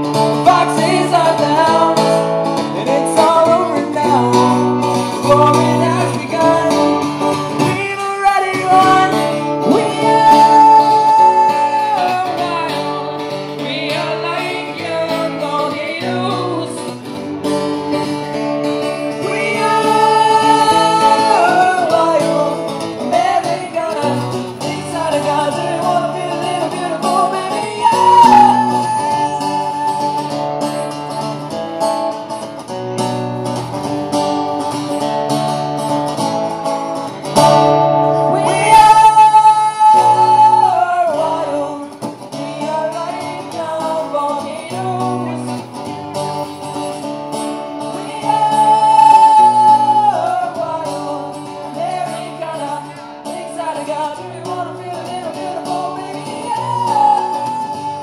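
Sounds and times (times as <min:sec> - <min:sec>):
person singing: 0:00.0 - 0:31.6, 0:37.4 - 0:47.0, 0:47.6 - 0:58.0
guitar chords: 0:00.0 - 0:58.0.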